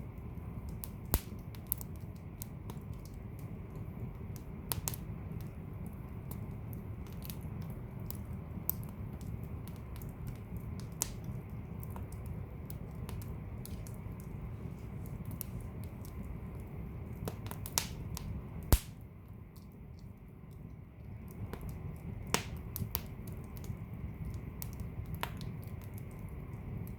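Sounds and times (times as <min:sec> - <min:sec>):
fire crackling and popping: 0:00.0 - 0:26.9
low rumble of flames: 0:00.0 - 0:26.9.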